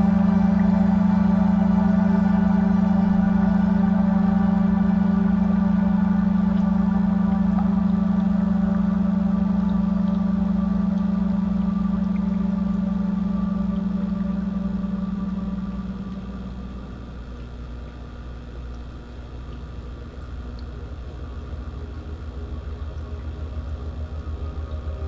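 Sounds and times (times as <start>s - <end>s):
low ambient drone music: 0.0s - 25.0s.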